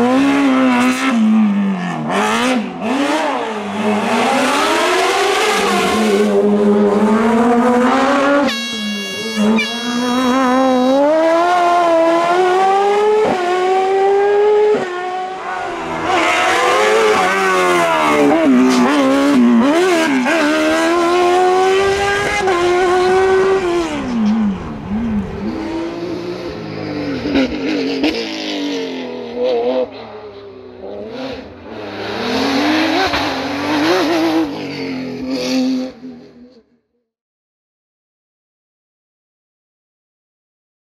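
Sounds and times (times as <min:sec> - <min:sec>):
race car engine revving: 0:00.0 - 0:36.5.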